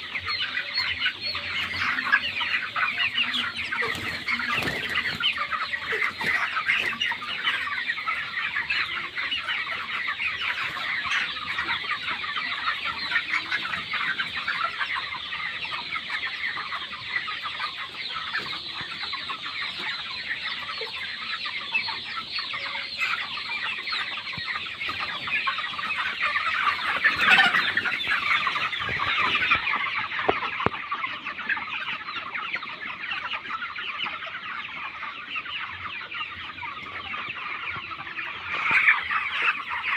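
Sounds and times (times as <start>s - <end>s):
chickens cheeping and clucking: 0.0s - 39.9s.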